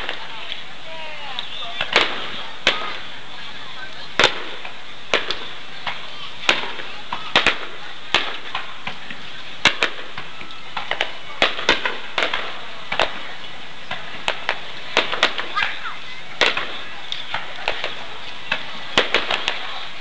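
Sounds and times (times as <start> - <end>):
firework shells bursting: 0.0 - 3.2, 3.9 - 20.0
steady background hiss: 0.0 - 20.0.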